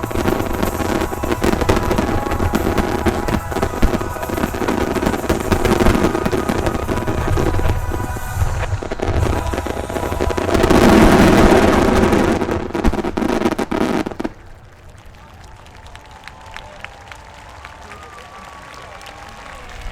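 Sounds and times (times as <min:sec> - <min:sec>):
fireworks bangs and crackling: 0:00.0 - 0:16.5.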